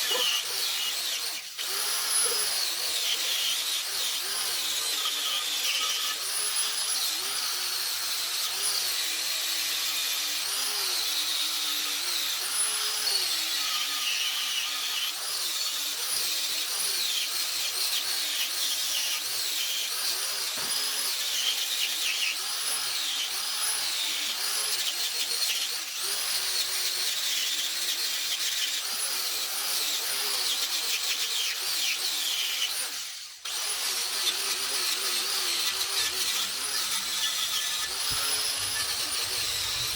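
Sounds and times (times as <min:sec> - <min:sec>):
handheld power tool running: 0:00.0 - 0:39.9.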